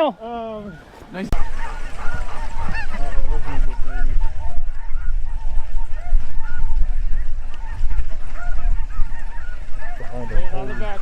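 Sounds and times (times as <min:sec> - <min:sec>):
geese honking: 0:00.3 - 0:11.0.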